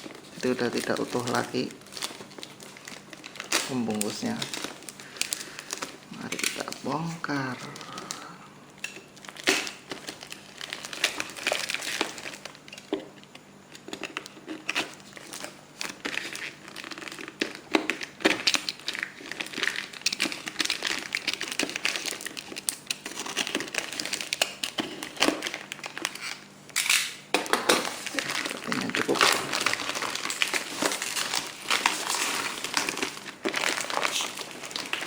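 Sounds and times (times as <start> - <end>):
packaging tearing: 0.0 - 8.3, 9.1 - 13.0, 13.8 - 35.0
packaging crinkling and crumpling: 0.0 - 35.0.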